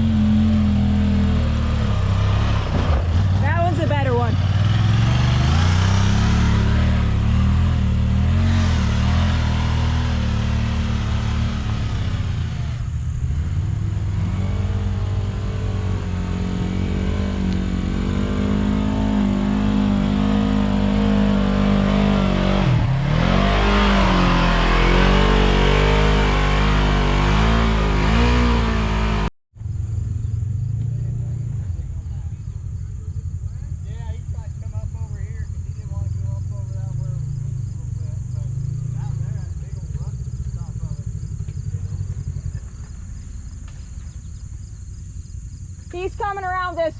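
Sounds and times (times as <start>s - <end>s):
engine running under load: 0.0s - 46.9s
outdoor ambience: 0.0s - 46.9s.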